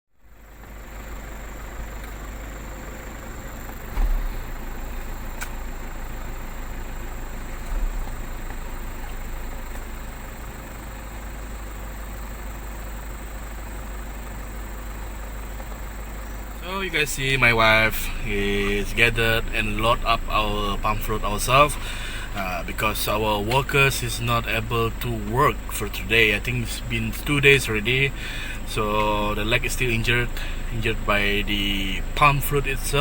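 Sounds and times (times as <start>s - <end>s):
vehicle engine idling: 0.1s - 33.0s.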